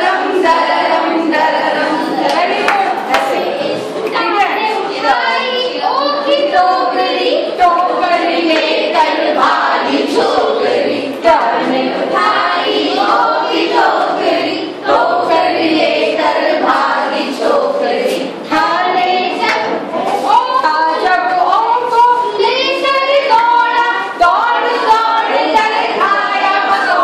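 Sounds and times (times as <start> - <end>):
women singing in unison: 0.0 - 27.0.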